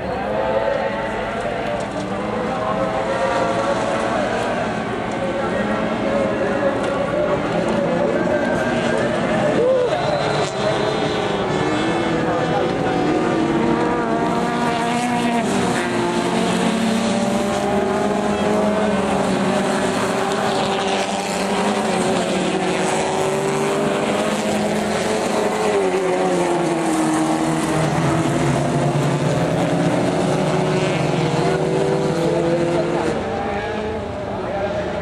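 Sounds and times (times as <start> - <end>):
racing car engines: 0.0 - 35.0.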